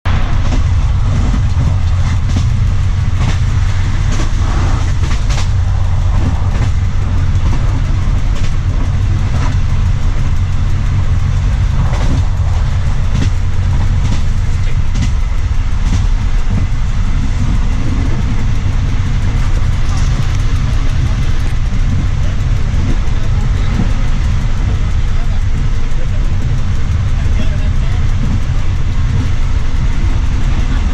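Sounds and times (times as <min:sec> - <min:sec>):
train rumbling on rails: 0:00.0 - 0:30.9
wheels knocking on track: 0:00.1 - 0:30.9.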